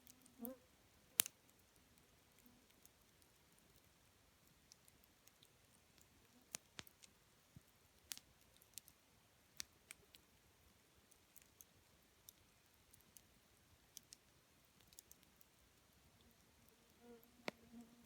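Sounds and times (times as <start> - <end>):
faint hiss: 0.0 - 18.0
wood fire crackling: 1.0 - 17.7.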